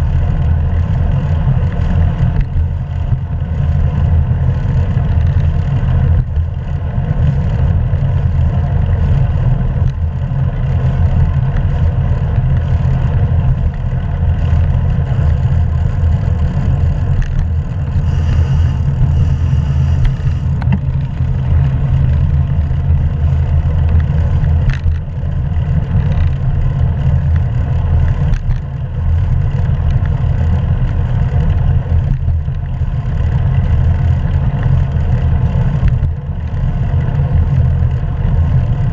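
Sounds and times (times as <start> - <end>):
wind and road rumble: 0.0 - 38.9
faint clicks and rattles: 0.1 - 38.9.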